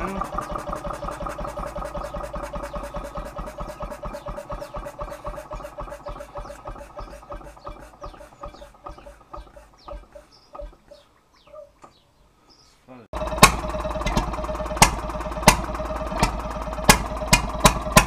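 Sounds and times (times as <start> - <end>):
petrol engine running down: 0.0 - 10.2, 13.2 - 18.0.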